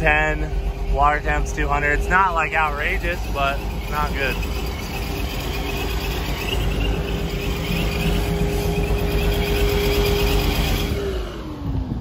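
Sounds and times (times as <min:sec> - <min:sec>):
supercharged car engine whine: 0:00.0 - 0:12.0.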